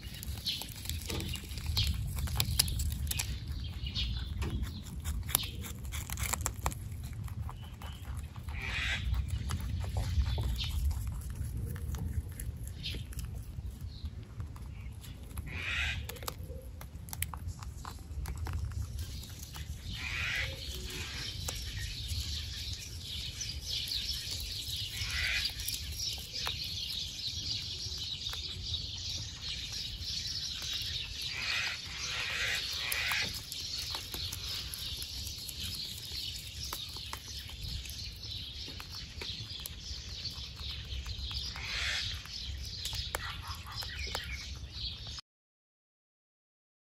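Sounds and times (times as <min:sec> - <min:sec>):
rabbits chewing: 0:00.0 - 0:45.2.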